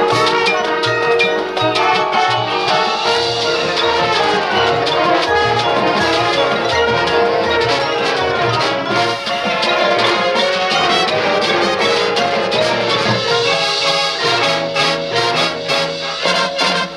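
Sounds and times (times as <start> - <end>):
marching band brass: 0.0 - 16.9
steady drum beat: 0.0 - 16.9.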